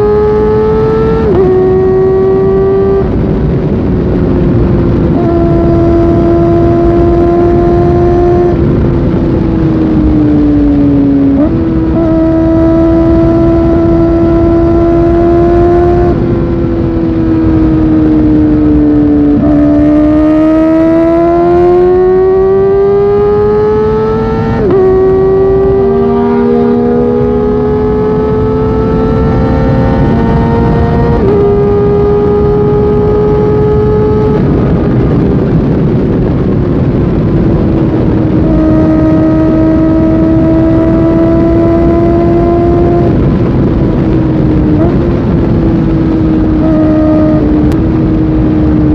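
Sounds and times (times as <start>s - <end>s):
low rushing noise: 0.0s - 48.9s
motorcycle engine revving: 0.0s - 48.9s.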